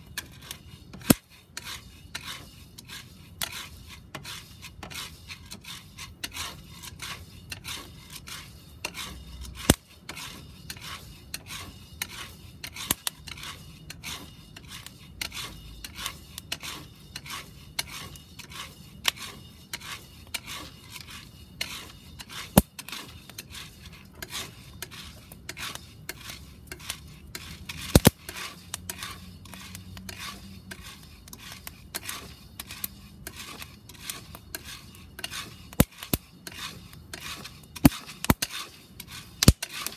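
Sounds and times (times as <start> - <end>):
coffee beans scraping in iron pot: 0.0 - 39.9.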